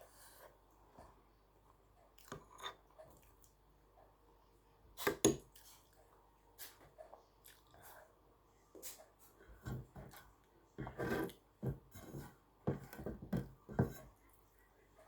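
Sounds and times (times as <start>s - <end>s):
soft chewing sounds: 0.0s - 15.0s.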